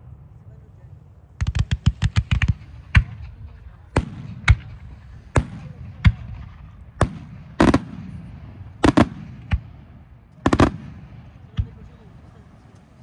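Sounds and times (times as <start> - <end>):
continuous low rumble: 0.0 - 13.0.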